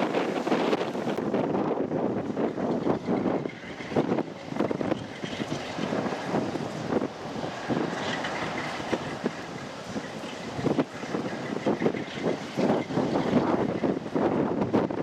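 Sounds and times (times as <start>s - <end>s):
diesel locomotive engine running: 0.0s - 15.0s
wind buffeting microphone: 0.0s - 15.0s.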